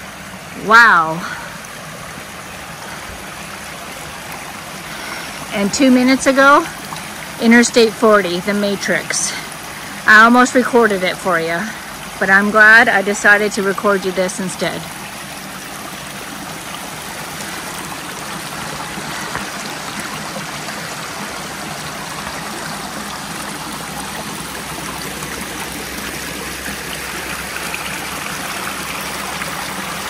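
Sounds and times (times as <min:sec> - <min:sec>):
stream running: 0:00.0 - 0:30.0.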